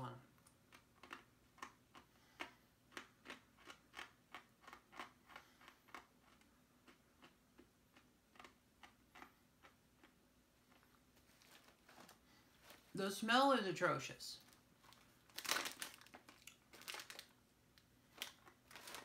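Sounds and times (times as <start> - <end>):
crunchy snacks being chewed: 0.5 - 12.2, 14.5 - 17.4, 18.1 - 19.0.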